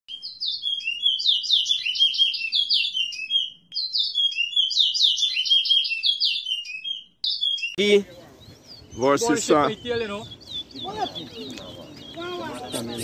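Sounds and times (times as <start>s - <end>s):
songbird singing: 0.1s - 13.0s.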